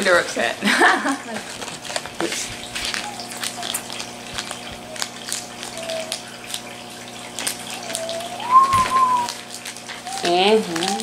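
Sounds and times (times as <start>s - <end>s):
plastic wrapping crinkling: 1.0s - 11.0s.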